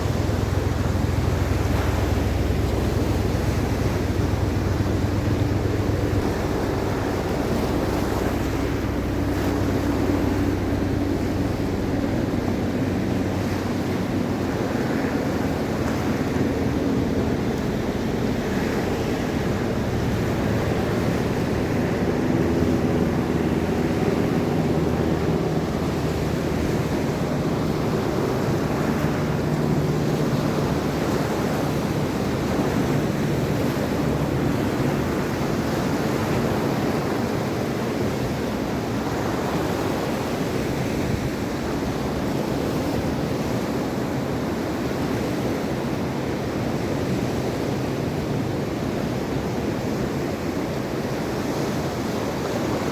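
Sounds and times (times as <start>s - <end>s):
waves washing onto shore: 0.0s - 52.9s.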